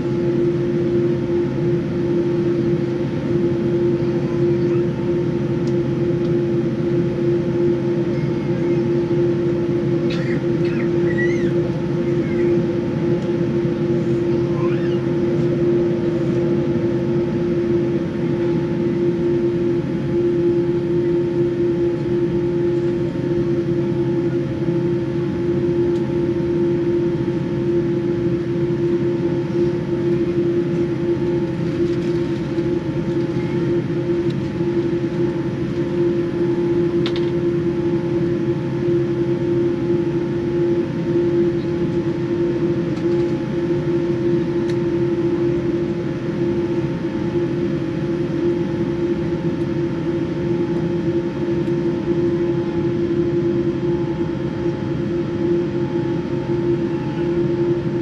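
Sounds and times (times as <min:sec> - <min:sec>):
aircraft cabin engine drone: 0:00.0 - 0:58.0
steady hum tone: 0:00.0 - 0:58.0.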